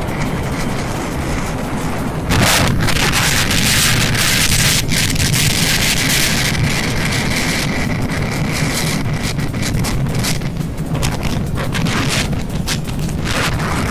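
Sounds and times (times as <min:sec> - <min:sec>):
motorcycle engine running: 0:00.0 - 0:13.9
wet road spray hiss: 0:00.0 - 0:13.9
wind rushing over microphone: 0:00.0 - 0:13.9.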